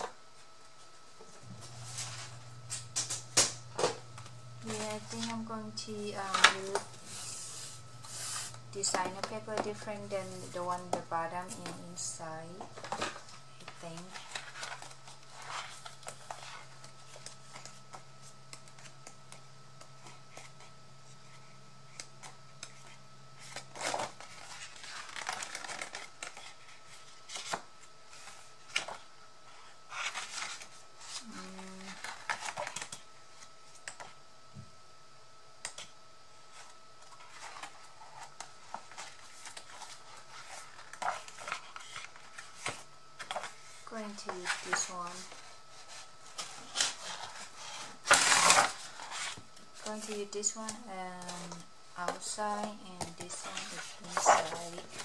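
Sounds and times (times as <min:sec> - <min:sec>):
paper rustling and crinkling: 0:00.0 - 0:34.2, 0:36.3 - 0:55.0
low steady hum: 0:00.0 - 0:55.0.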